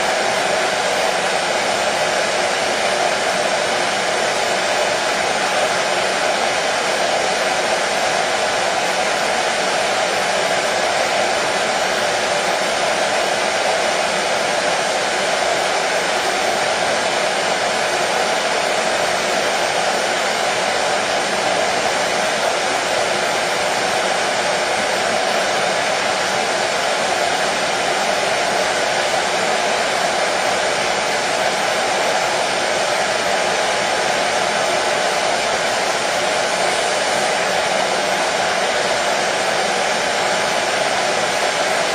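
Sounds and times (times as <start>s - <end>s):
hair dryer running: 0.0s - 41.9s.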